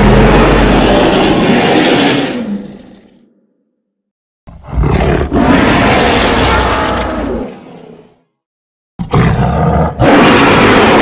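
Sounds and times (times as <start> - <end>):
monster roar: 0.0 - 3.3, 4.5 - 8.1, 9.0 - 11.0.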